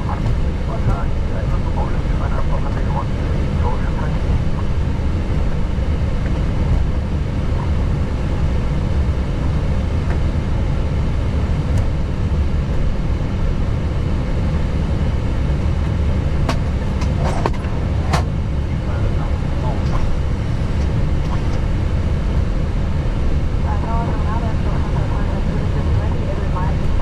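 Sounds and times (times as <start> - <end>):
cockpit low rumble: 0.0 - 27.0.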